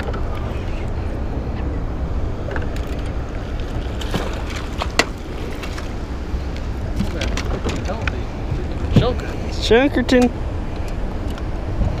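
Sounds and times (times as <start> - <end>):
moving water: 0.0 - 12.0
wind rumbling on microphone: 0.0 - 12.0.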